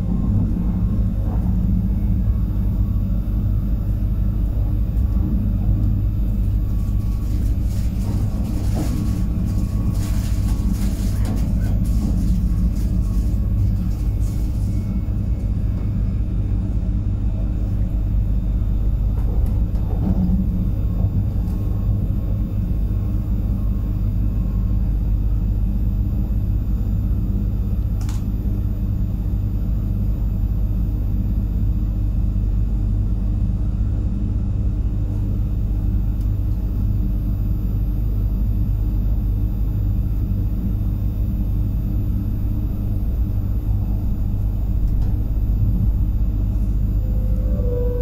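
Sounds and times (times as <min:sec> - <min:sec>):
train rumble with hum: 0:00.0 - 0:48.0.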